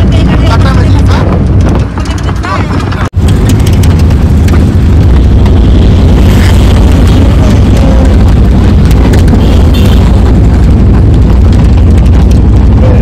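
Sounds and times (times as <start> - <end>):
distorted vehicle rumble: 0.0 - 13.0.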